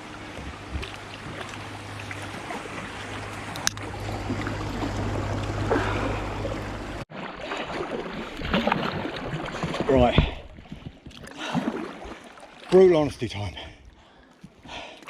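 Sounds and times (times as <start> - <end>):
river water around canoe: 0.0 - 15.0.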